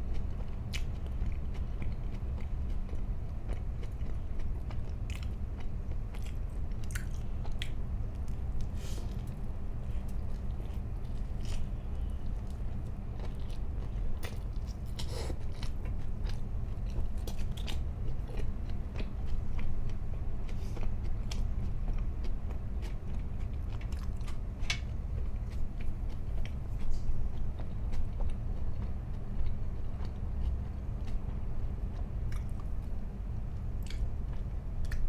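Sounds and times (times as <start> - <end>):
chewing and biting food: 0.0 - 35.0
steady low hum: 0.0 - 35.0.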